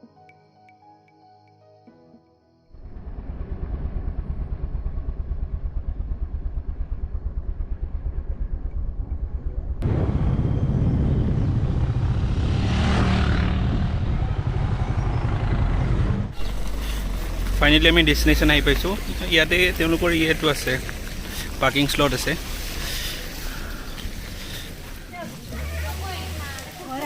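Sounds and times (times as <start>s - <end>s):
vehicle engine and road noise: 2.8s - 27.0s.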